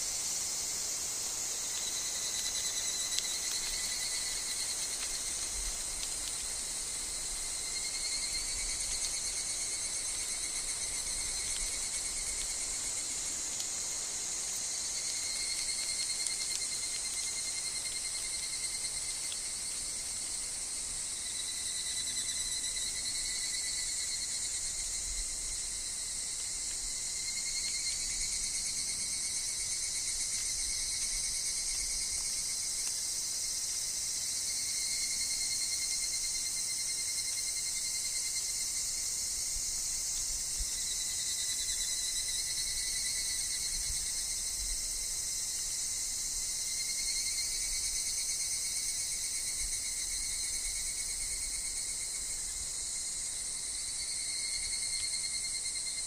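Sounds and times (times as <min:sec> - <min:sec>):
cicadas calling: 0:00.0 - 0:56.0.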